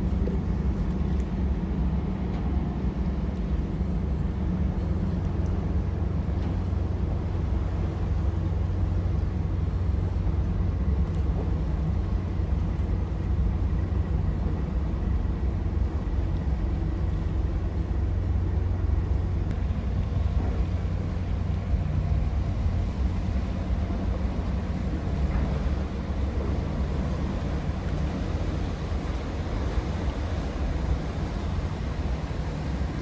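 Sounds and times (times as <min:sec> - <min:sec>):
ferry engines rumbling: 0:00.0 - 0:33.0.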